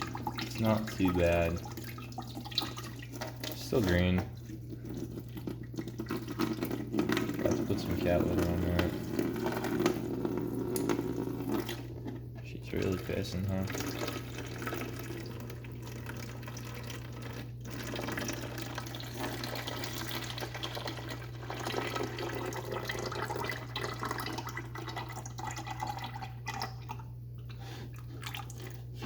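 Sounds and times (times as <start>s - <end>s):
coolant pouring and splashing: 0.0s - 29.0s.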